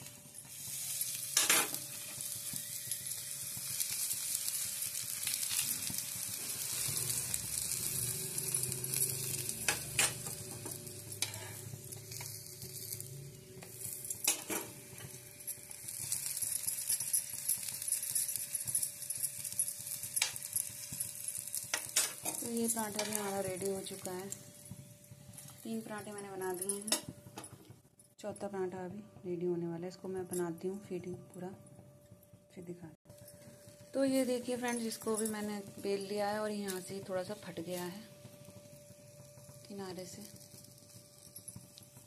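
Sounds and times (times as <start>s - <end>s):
flatbread sizzling in pan: 0.0s - 27.4s, 33.1s - 42.0s.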